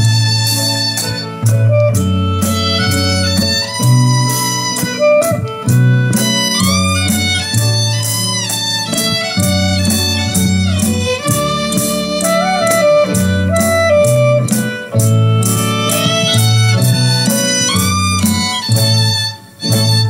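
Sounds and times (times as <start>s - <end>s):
instrumental music over speakers: 0.0s - 20.0s.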